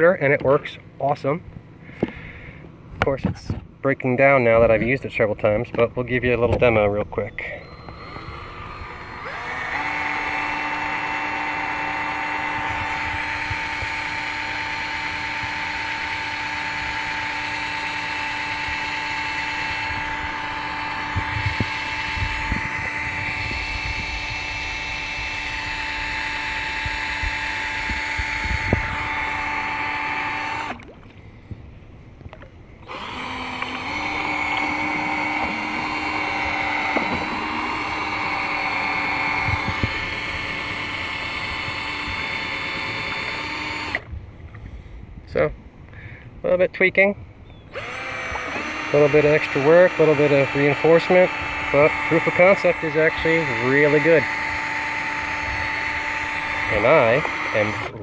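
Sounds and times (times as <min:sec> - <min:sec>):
cordless drill whining: 0:06.2 - 0:30.9, 0:32.7 - 0:44.1, 0:47.5 - 0:58.0.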